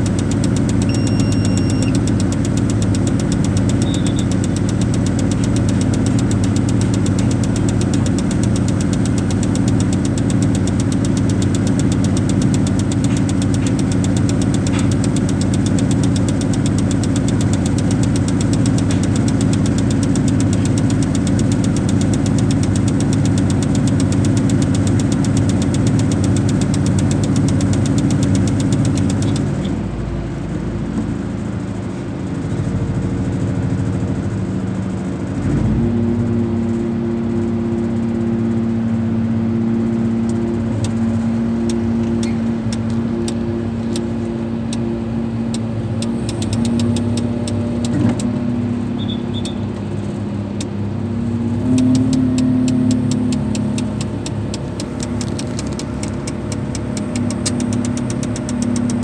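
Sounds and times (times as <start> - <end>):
diesel engine knocking: 0.0 - 59.0.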